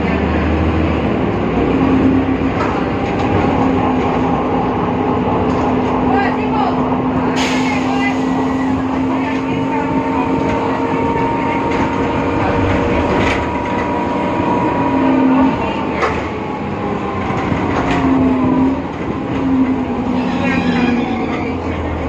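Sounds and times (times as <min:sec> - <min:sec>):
bus drivetrain rumble: 0:00.0 - 0:22.0.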